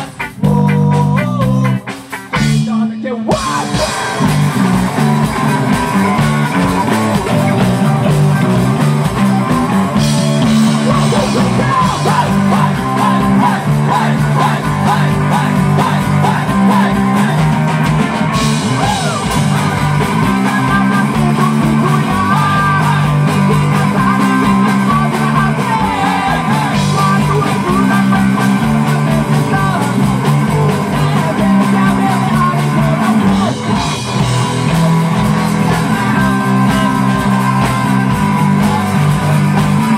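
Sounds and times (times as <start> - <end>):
person singing: 0.0 - 1.9, 2.5 - 39.9
drums: 0.0 - 39.9
electric bass line: 0.0 - 39.9
live rock band playing: 0.0 - 39.9.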